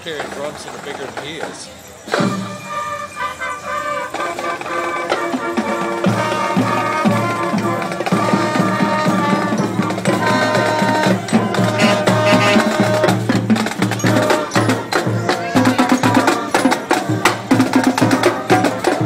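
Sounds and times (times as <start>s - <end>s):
drumline: 0.0s - 19.0s
marching band playing: 0.0s - 19.0s.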